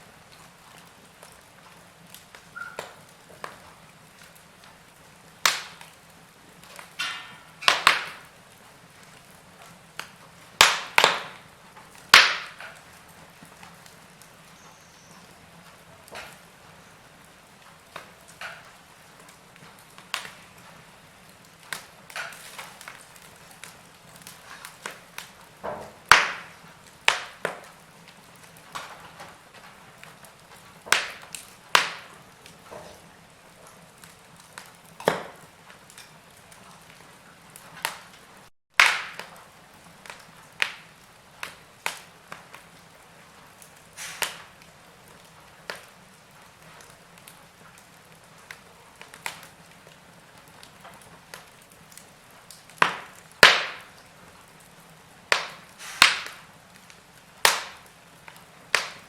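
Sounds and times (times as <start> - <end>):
faint steady hiss: 0.0 - 59.0
wood fire crackling: 0.0 - 59.0.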